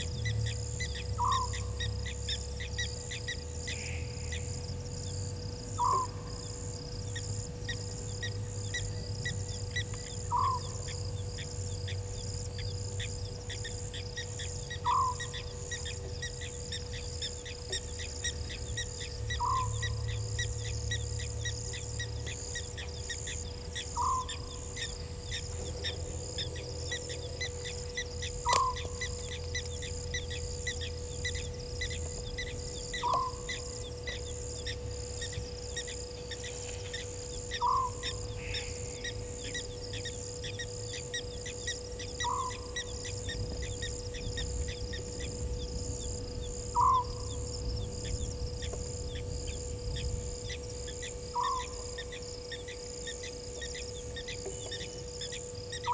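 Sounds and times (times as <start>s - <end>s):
crickets chirping: 0.0s - 55.9s
faint hum: 0.0s - 55.9s
night bird call: 0.0s - 55.9s.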